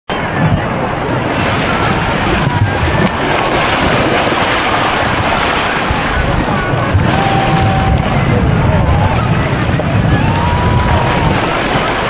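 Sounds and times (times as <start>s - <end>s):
floodwater rushing: 0.1s - 12.0s
wind buffeting microphone: 0.1s - 12.0s.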